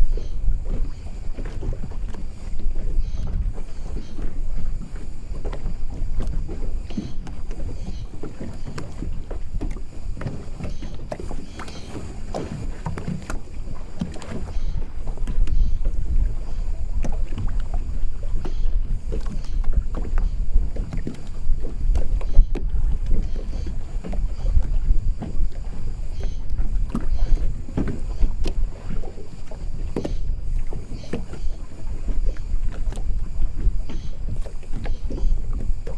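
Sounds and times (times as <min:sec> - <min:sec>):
low wind rumble: 0:00.0 - 0:35.9
water lapping against a boat: 0:00.0 - 0:35.9.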